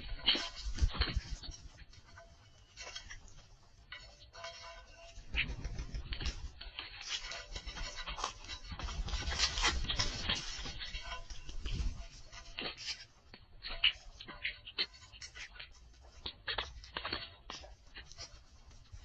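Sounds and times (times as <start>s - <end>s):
birds scratching on a feeder: 0.0s - 19.0s.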